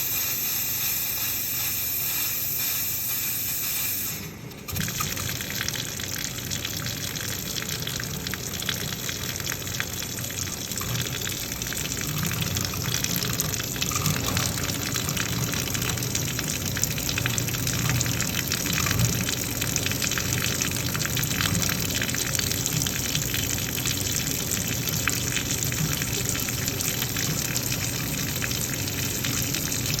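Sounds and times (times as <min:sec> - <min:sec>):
water gushing from heater drain: 0:00.0 - 0:30.0.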